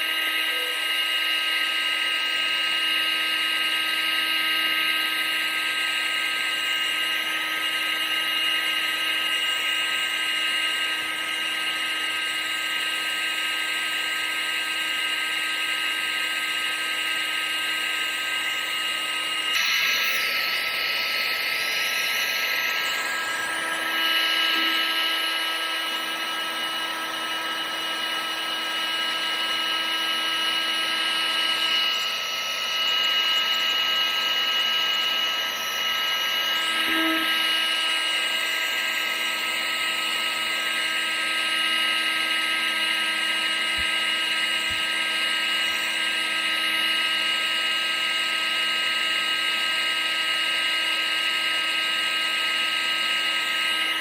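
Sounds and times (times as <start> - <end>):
appliance motor and fan whine: 0.0 - 54.0.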